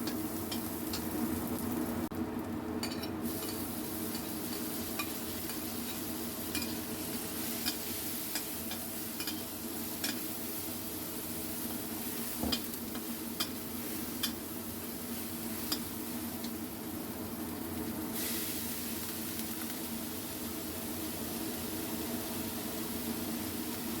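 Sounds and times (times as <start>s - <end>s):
food sizzling in a hot pan: 0.0s - 24.0s.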